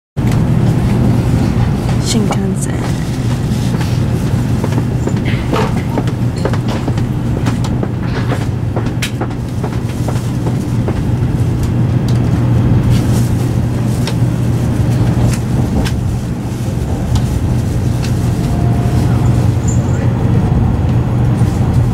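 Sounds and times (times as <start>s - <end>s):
train carriage hum and rumble: 0.2s - 21.9s.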